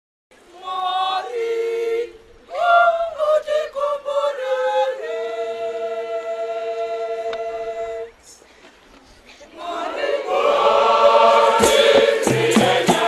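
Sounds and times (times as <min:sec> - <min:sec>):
choir singing a hymn unaccompanied: 0:00.4 - 0:08.2, 0:09.4 - 0:13.0.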